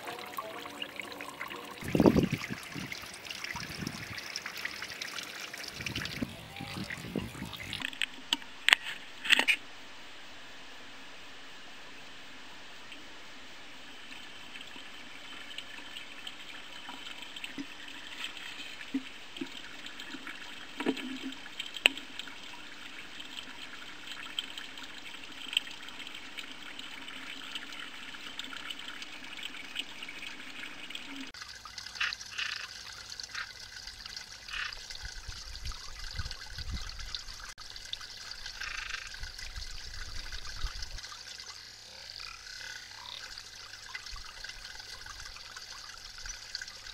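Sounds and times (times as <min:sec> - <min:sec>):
water trickling: 0:00.0 - 0:09.1, 0:13.8 - 0:46.9.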